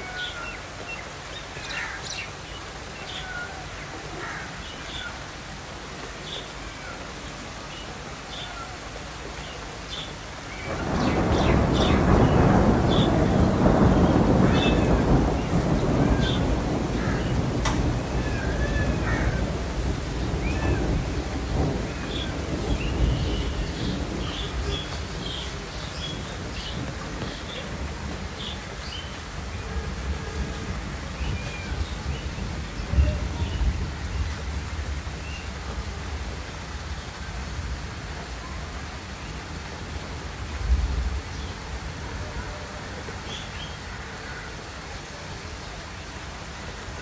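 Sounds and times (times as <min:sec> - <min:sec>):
stormy weather rumble and hiss: 0:00.0 - 0:47.0.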